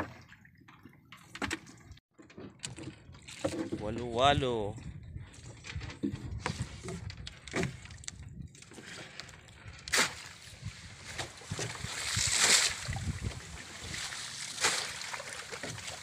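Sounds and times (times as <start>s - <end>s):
water sloshing against boat: 0.0s - 16.0s.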